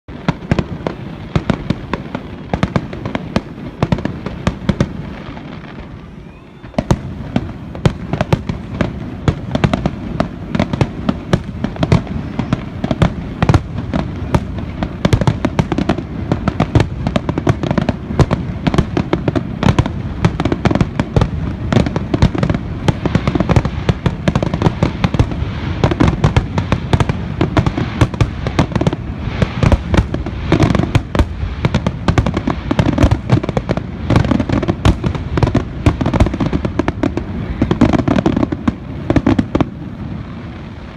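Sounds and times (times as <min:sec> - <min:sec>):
fireworks bursting and crackling: 0:00.0 - 0:40.9.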